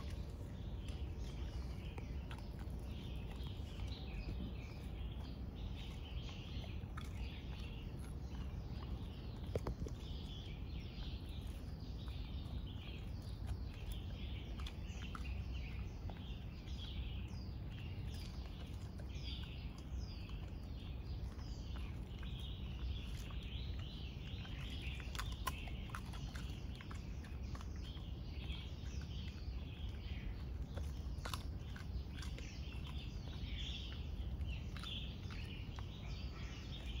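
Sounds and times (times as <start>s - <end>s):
low outdoor rumble: 0.0s - 37.0s
small birds chirping: 0.0s - 37.0s.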